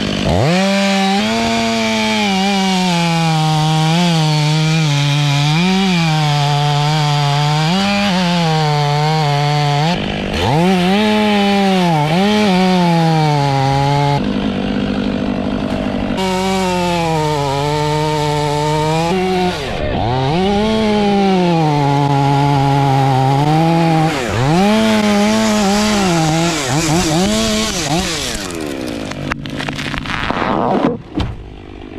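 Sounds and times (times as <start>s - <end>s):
chainsaw cutting wood: 0.0s - 31.9s
wood cracking: 0.0s - 31.9s.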